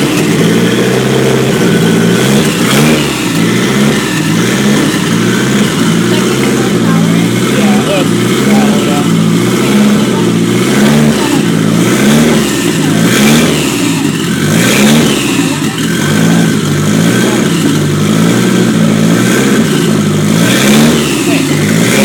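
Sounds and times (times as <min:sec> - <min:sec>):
car engine surging at cold start: 0:00.0 - 0:22.0.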